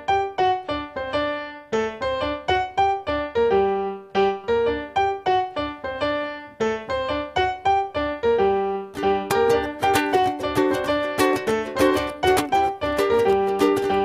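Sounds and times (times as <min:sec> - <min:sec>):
piano playing short notes: 0:00.0 - 0:14.0.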